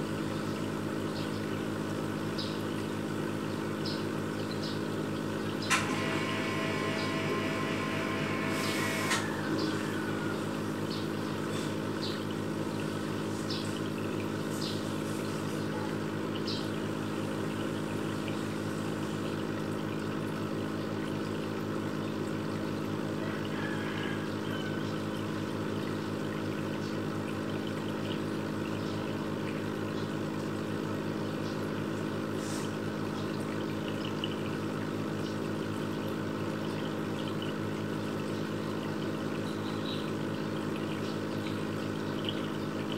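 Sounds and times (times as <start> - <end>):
aquarium pump humming: 0.0 - 42.9.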